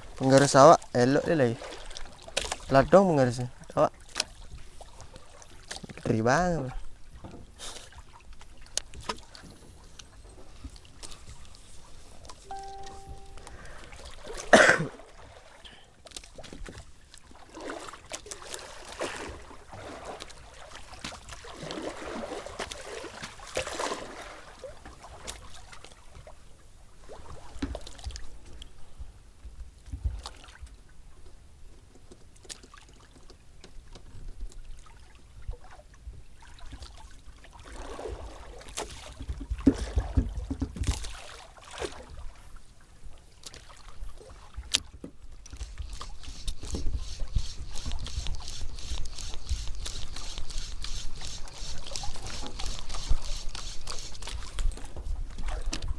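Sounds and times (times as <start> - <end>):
water lapping against boat hull: 0.0 - 12.5, 13.6 - 55.9.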